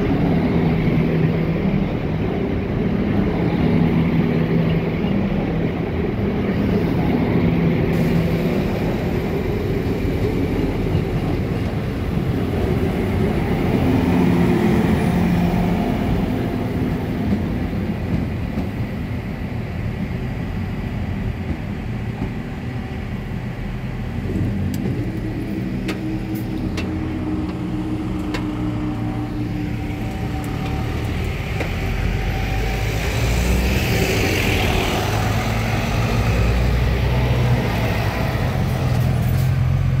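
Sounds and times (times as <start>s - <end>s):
diesel engines pulling away: 0.0s - 18.8s, 19.8s - 40.0s.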